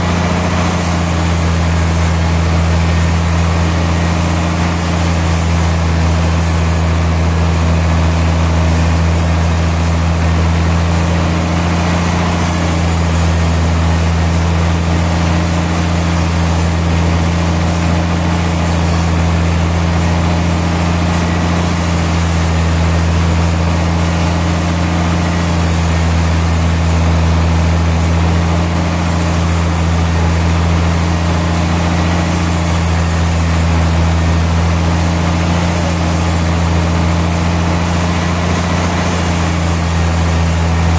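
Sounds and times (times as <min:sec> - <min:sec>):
sawmill machinery hum: 0:00.0 - 0:40.9.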